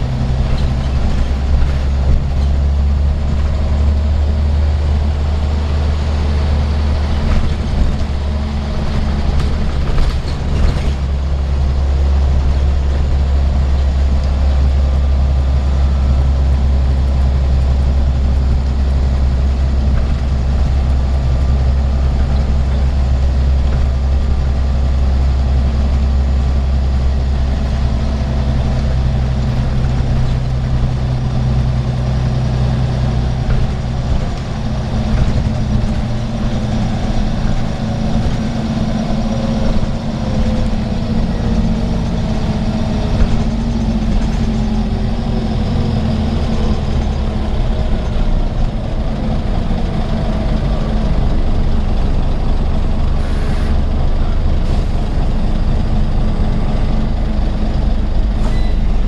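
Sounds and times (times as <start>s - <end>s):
bus diesel engine drone: 0.0s - 59.0s
road noise: 0.0s - 59.0s.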